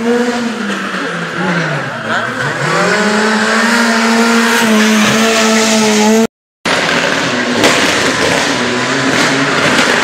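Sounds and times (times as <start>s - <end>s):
car engine at high revs: 0.0s - 10.0s
rally car passing: 0.0s - 10.0s.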